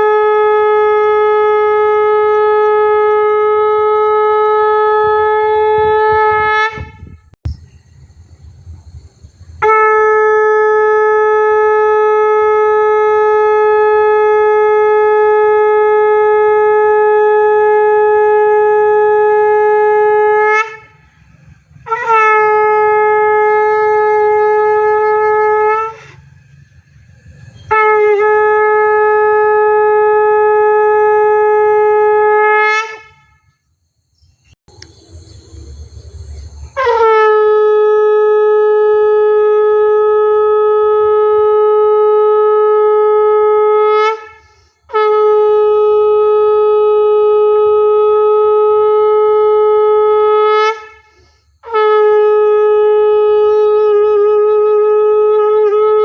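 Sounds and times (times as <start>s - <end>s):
conch shell blasts: 0.0s - 7.2s, 9.6s - 21.0s, 21.7s - 26.2s, 27.4s - 33.5s, 36.7s - 56.0s.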